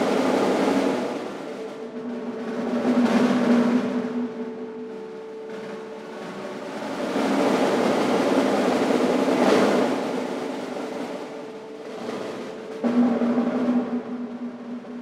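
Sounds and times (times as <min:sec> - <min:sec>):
chamber ensemble noisy texture: 0:00.0 - 0:15.0.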